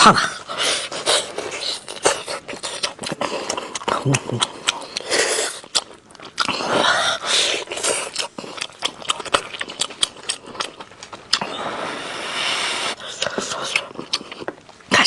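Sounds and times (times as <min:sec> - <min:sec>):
person chewing food: 0:00.4 - 0:15.0.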